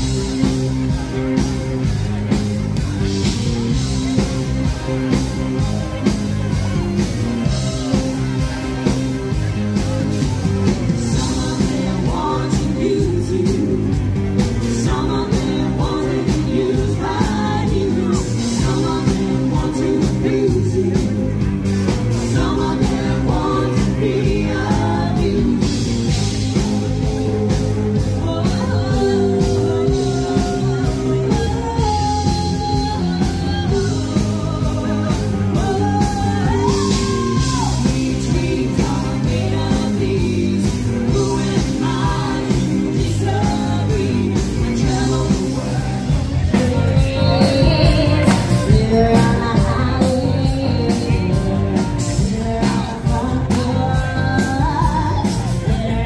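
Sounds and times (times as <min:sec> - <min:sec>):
guitar: 0:00.0 - 0:56.0
lead singer singing: 0:00.0 - 0:56.0.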